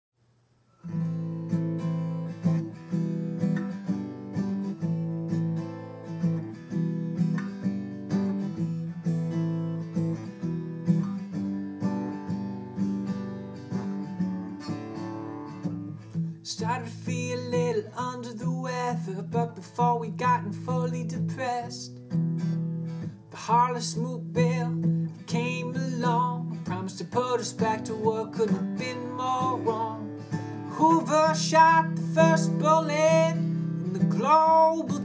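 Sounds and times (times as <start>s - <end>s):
acoustic guitar strumming chords: 0.6s - 35.0s.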